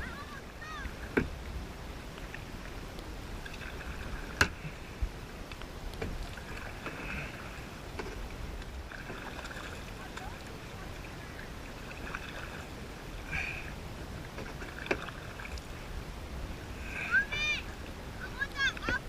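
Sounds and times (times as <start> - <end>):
water swishing around paddle: 0.0 - 19.0.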